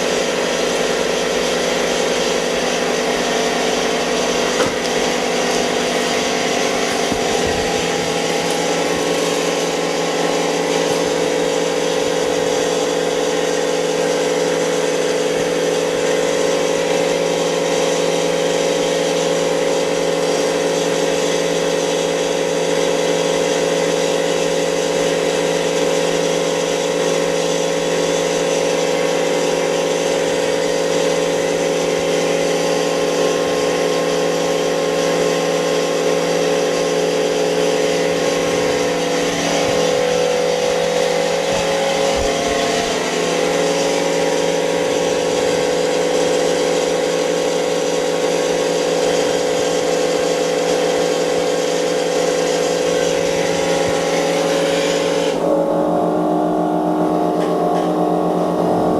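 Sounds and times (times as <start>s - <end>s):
steady machine hum: 0.0s - 58.9s.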